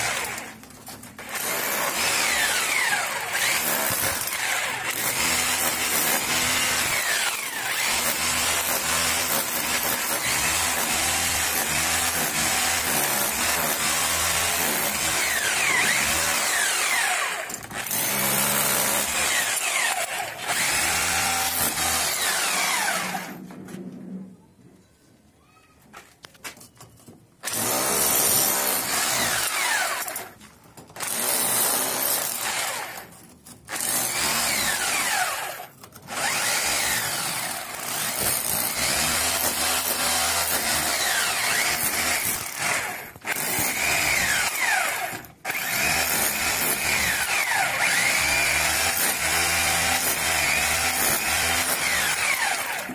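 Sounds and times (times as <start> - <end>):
rotary drill hammering into brick: 0.0 - 23.4, 27.4 - 52.9.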